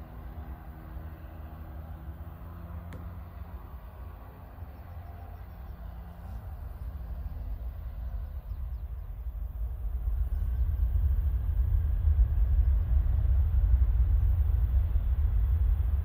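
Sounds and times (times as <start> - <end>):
jet aircraft rumble: 0.0 - 16.0.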